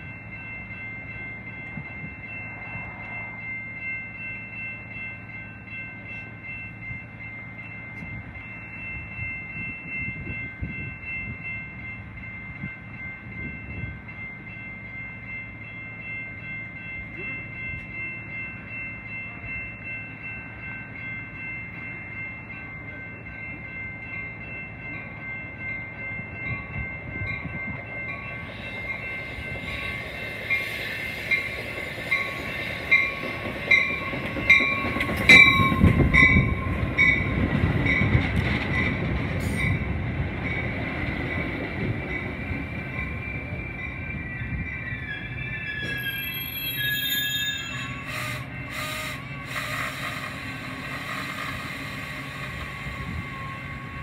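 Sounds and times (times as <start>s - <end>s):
bell ringing steadily: 0.0s - 54.0s
train rumbling past: 0.0s - 54.0s.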